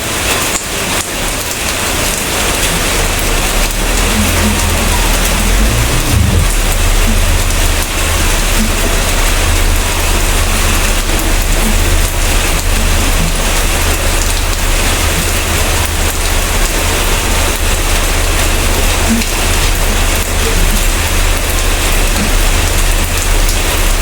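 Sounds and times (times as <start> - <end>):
heavy rain: 0.0 - 24.0
low rumble: 2.8 - 24.0.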